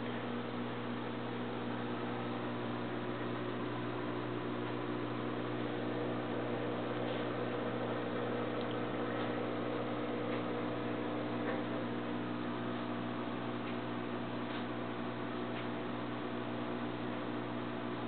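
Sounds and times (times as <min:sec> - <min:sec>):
aquarium filter humming: 0:00.0 - 0:18.0.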